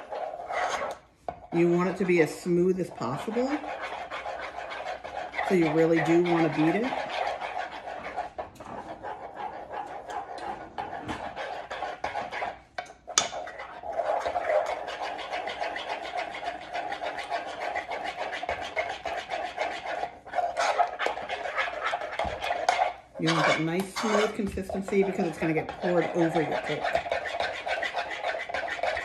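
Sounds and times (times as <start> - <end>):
spoon scraping and knocking pan: 0.0 - 29.0.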